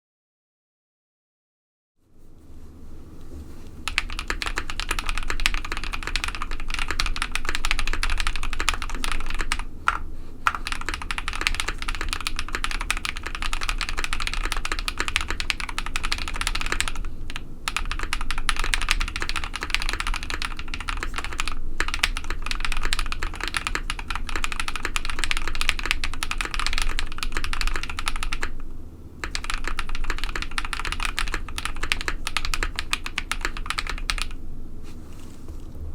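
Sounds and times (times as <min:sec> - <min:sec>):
fast typing on mechanical keyboard: 0:03.8 - 0:28.6, 0:29.2 - 0:34.4.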